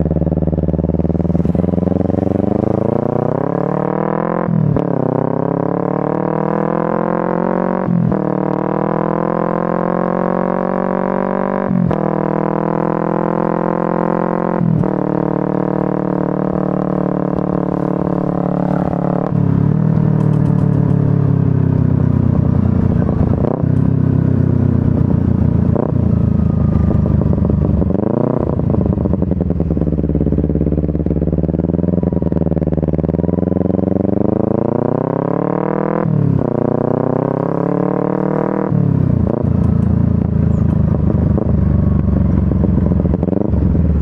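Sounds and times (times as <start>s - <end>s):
motorcycle engine droning: 0.0s - 44.0s.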